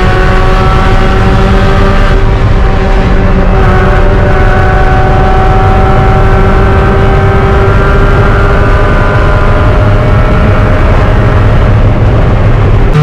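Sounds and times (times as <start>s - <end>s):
race car engine at high revs: 0.0s - 13.0s
wind and road noise rumble: 0.0s - 13.0s.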